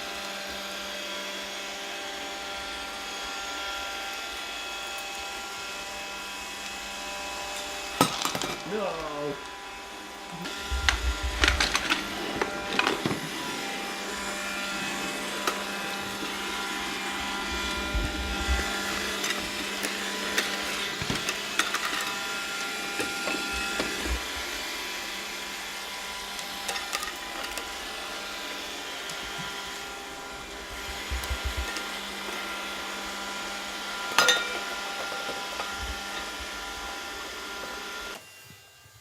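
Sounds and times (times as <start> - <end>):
robot vacuum motor hum: 0.0 - 39.0.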